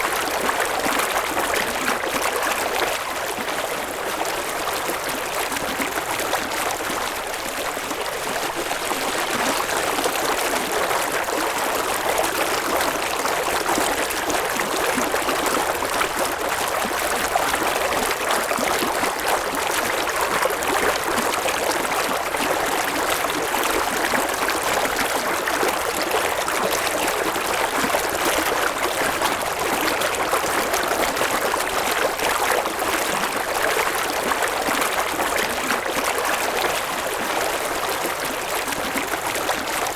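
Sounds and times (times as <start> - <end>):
river water flowing over rocks: 0.1 - 39.9.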